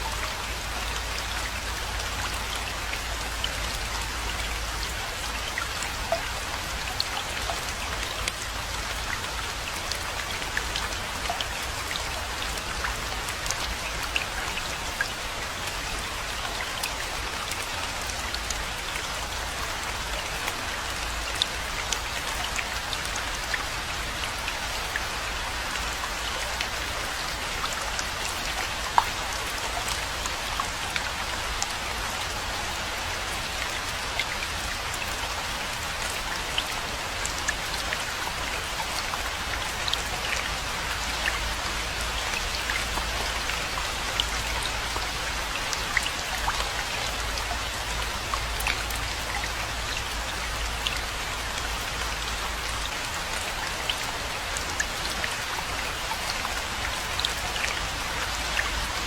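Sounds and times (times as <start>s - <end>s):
raindrops ticking on a surface: 0.0s - 59.0s.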